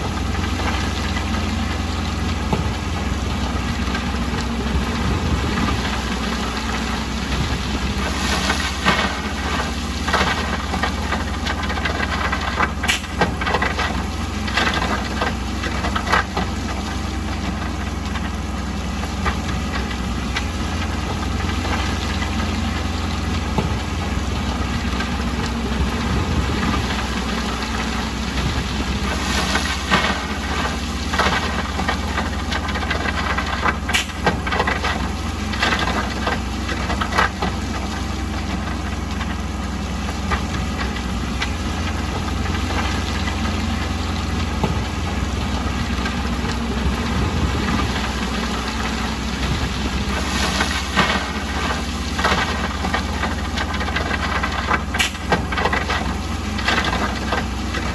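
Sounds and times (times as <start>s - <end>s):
diesel engine of heavy machinery: 0.0s - 57.9s.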